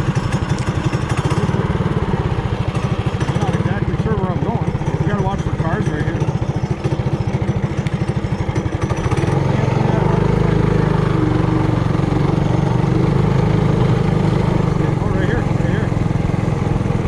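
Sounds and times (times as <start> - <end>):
mini bike engine idling and revving: 0.0 - 17.0.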